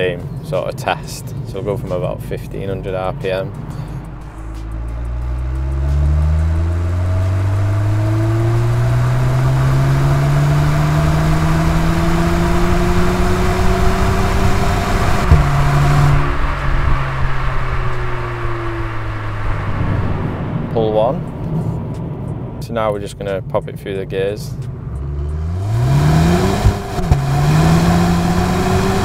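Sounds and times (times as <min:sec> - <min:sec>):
car engine accelerating: 0:01.5 - 0:22.6, 0:24.5 - 0:29.0.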